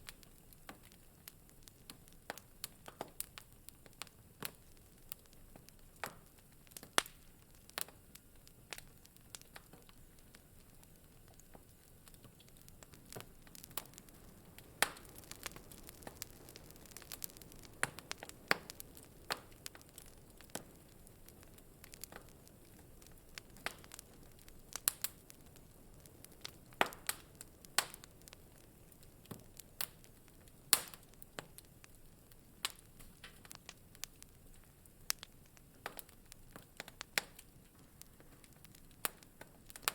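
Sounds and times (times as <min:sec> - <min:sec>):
faint steady hiss: 0:00.0 - 0:39.9
wood fire pops and snaps: 0:00.0 - 0:39.9.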